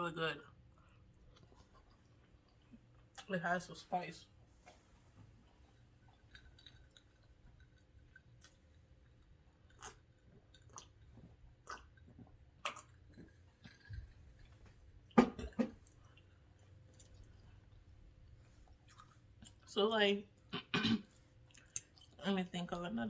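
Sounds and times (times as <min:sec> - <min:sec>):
person chewing with wet clicks: 0:00.4 - 0:03.4, 0:04.4 - 0:19.7, 0:20.3 - 0:22.3.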